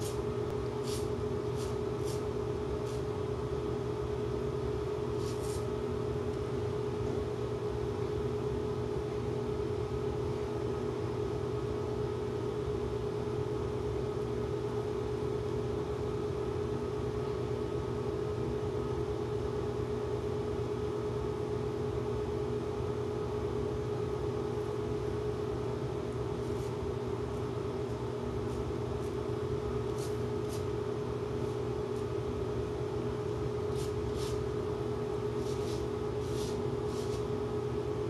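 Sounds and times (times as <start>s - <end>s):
steady electrical hum: 0.0s - 38.0s.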